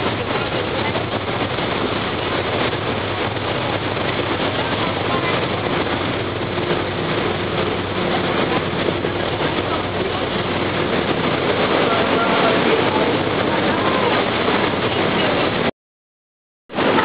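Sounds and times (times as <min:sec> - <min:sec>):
churning wake water: 0:00.0 - 0:15.7, 0:16.7 - 0:17.0
low engine hum: 0:00.0 - 0:15.7
wind rushing: 0:00.0 - 0:15.7.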